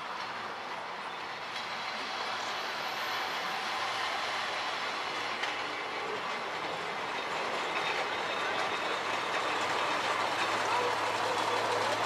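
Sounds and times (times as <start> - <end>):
railcars running past on track: 0.0 - 12.0.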